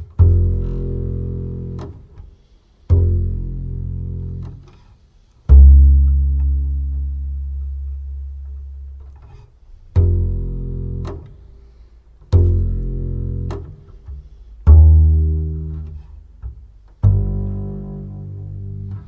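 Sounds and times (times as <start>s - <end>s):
deep plucked bass notes: 0.0s - 4.8s, 5.4s - 11.6s, 12.2s - 19.0s.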